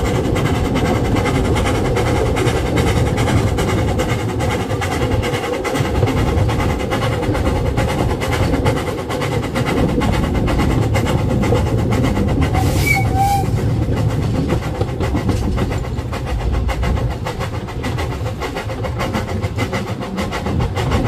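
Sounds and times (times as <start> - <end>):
train rumbling: 0.0 - 21.0
wheels clicking over rail joints: 0.0 - 21.0.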